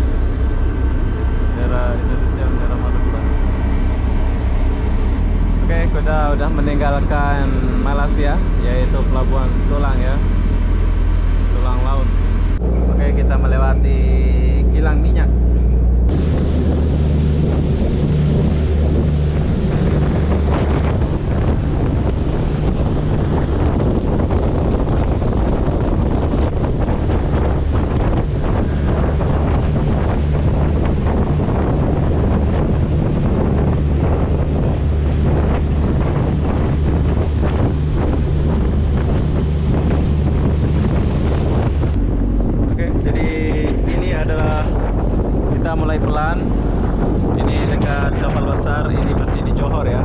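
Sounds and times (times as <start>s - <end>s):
low rumble of moving boat: 0.0s - 50.0s
ship engines droning: 0.0s - 50.0s
water rushing along hull: 0.0s - 50.0s
wind buffeting microphone: 0.0s - 50.0s.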